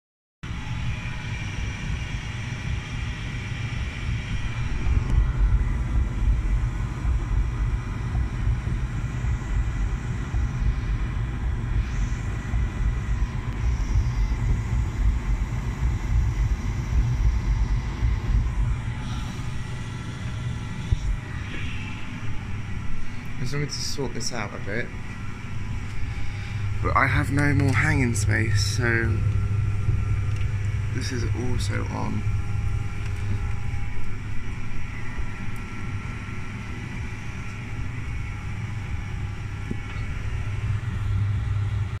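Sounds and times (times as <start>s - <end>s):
faint even hum: 0.5s - 42.0s
laundry machines rumbling: 0.5s - 42.0s.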